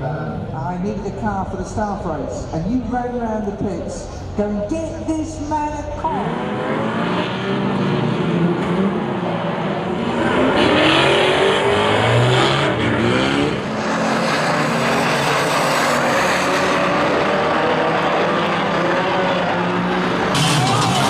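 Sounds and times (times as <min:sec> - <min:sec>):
racing car engines revving: 0:00.0 - 0:21.0
track noise rush: 0:00.0 - 0:21.0.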